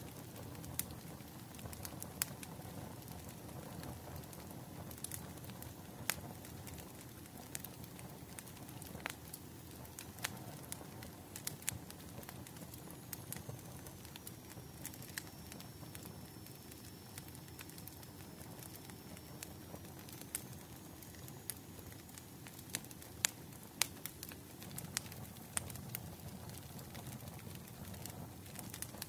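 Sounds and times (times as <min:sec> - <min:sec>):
bonfire crackling and popping: 0:00.0 - 0:29.0.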